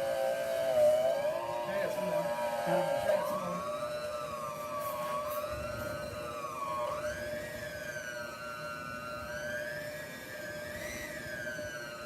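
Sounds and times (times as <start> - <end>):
electric mixer motor whining: 0.0 - 12.0.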